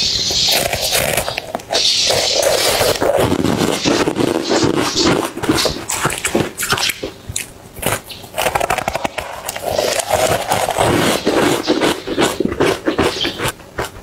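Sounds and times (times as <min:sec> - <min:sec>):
crunching and chewing ice: 0:00.5 - 0:14.0.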